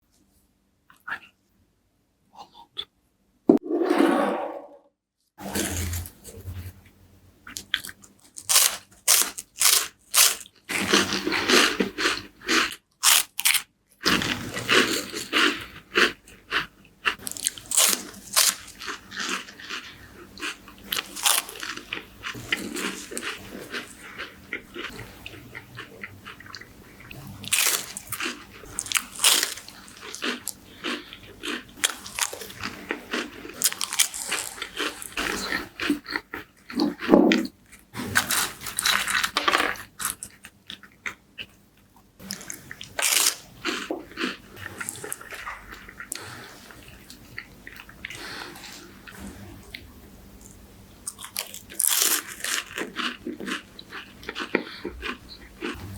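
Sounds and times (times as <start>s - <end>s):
crunching crispy wafers: 7.5s - 41.6s, 42.2s - 48.9s, 50.4s - 55.8s.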